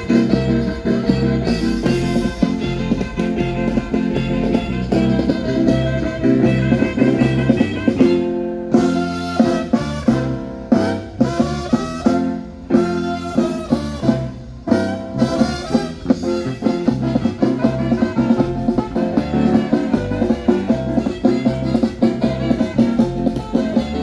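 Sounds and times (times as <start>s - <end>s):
brass band music: 0.0s - 24.0s
steady drum beat: 0.0s - 24.0s.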